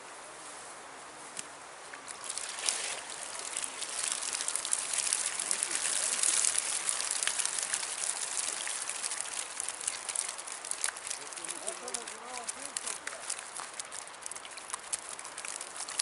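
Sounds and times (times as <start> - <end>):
water trickling from a net: 1.9 - 16.0.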